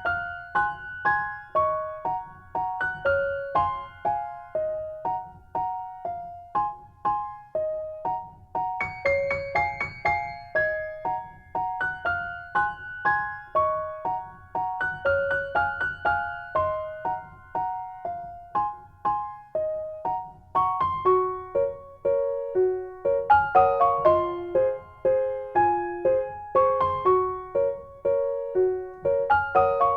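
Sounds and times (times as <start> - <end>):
simple piano melody: 0.0 - 29.9.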